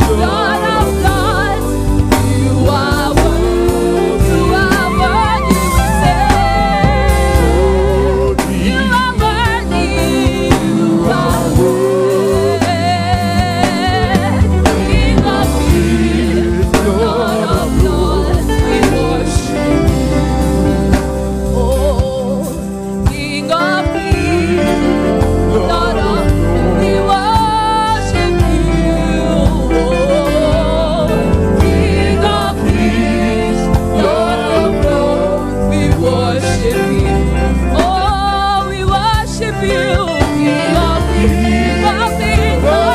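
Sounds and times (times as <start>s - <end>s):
choir singing: 0.0s - 21.8s, 23.6s - 42.9s
live band with bass and drums: 0.0s - 42.9s.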